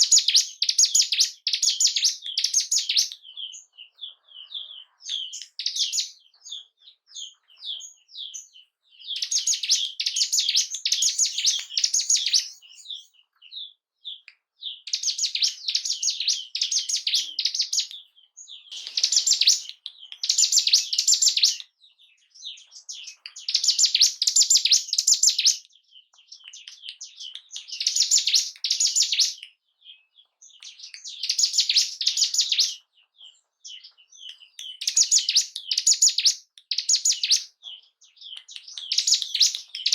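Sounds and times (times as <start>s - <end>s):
single bird chirps: 0.0s - 32.8s
bird chattering song: 0.0s - 39.9s.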